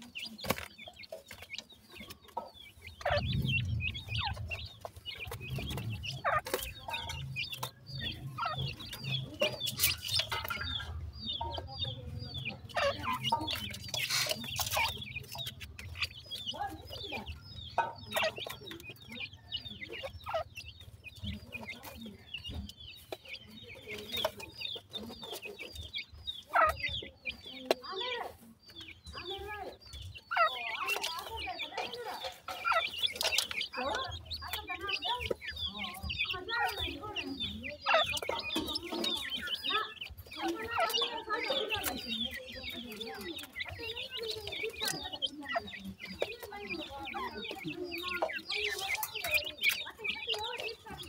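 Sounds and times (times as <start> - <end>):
chicks cheeping: 0.0 - 51.0.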